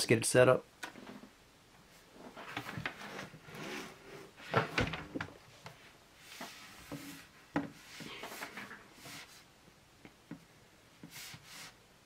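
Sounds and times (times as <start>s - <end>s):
objects handled on a tabletop: 2.1s - 11.8s.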